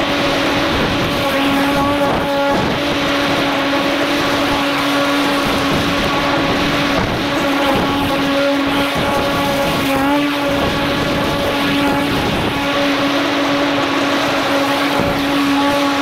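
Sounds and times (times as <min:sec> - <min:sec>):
blade rushing through grass: 0:00.0 - 0:16.0
lawn mower motor hum: 0:00.0 - 0:16.0.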